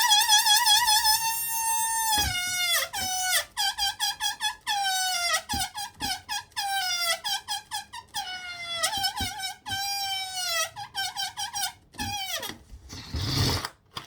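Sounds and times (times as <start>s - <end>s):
balloon neck squealing: 0.0s - 13.7s.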